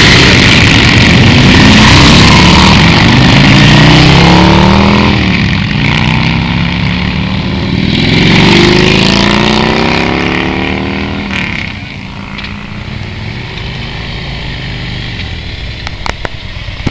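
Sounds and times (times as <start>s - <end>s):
motorcycle accelerating past: 0.0s - 15.6s
second motorcycle approaching: 0.0s - 16.9s.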